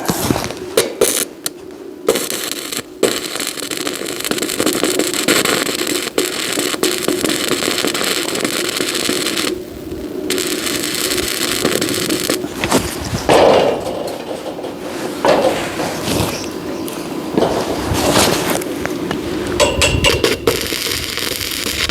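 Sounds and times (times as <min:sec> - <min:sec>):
electric arc welding crackling: 0:00.0 - 0:21.9.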